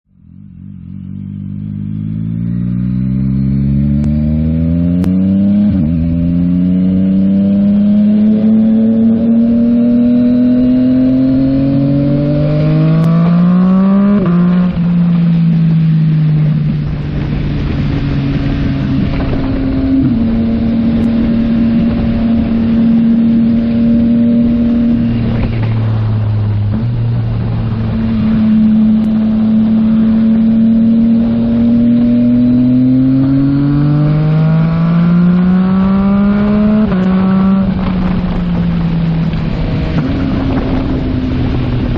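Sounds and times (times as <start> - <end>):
motorcycle engine accelerating: 0.1 - 41.9.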